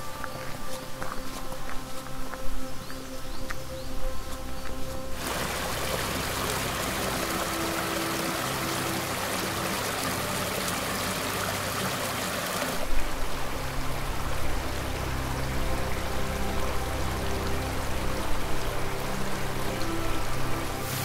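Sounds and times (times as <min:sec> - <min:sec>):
background music: 0:00.0 - 0:21.0
mountain stream rushing: 0:00.0 - 0:21.0.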